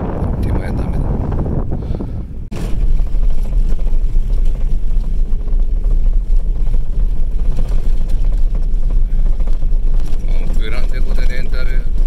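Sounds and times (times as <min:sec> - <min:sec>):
low rumble of moving vehicle: 0:00.0 - 0:12.0.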